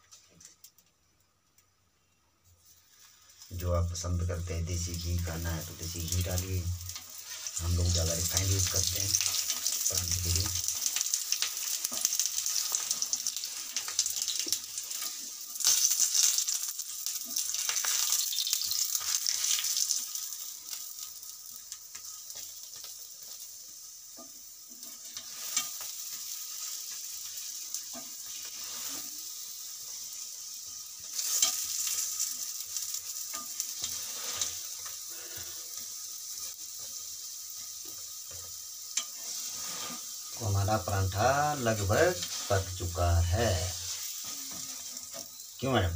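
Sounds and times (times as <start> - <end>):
flatbread sizzling in oil: 2.4 - 45.9.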